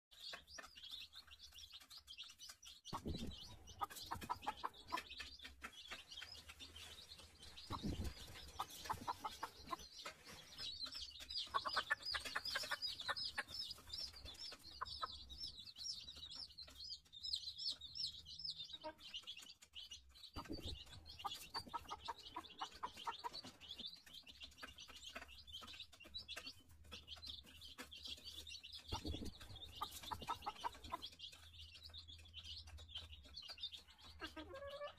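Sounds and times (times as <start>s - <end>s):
baby chicks peeping: 0.1s - 34.9s
chicken clucking: 0.2s - 34.9s.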